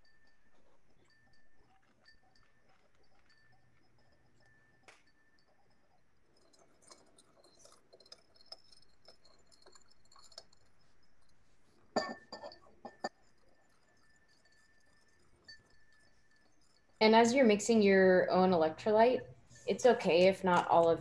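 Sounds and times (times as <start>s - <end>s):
metal spoon clinking in glass jar: 0.0s - 21.0s.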